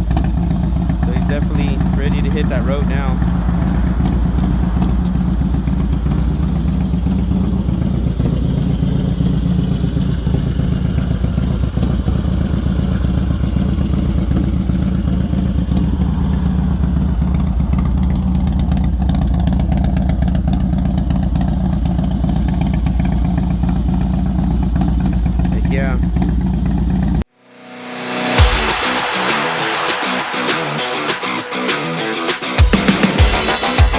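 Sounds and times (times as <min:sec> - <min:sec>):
motorcycle engine idling: 0:00.0 - 0:27.3.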